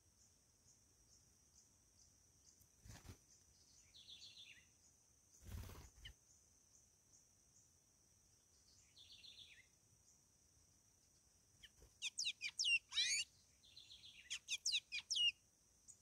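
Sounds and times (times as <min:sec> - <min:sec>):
descending trilled birdsong: 0:00.2 - 0:07.7, 0:08.5 - 0:10.2, 0:11.0 - 0:16.0.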